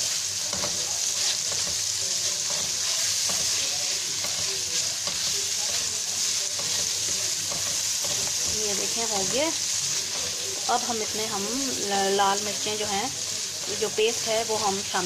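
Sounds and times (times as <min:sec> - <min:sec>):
garlic sizzling in oil: 0:00.0 - 0:15.0
spatula scraping pan: 0:00.0 - 0:15.0.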